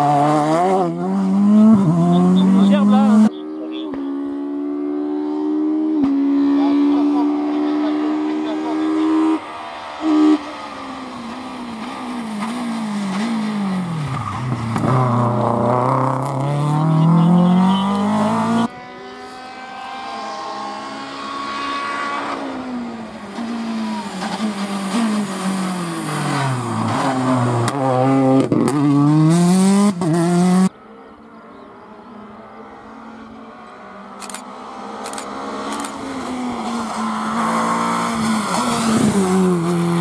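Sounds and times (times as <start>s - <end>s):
rally cars accelerating past: 0.0s - 31.1s, 32.0s - 40.0s.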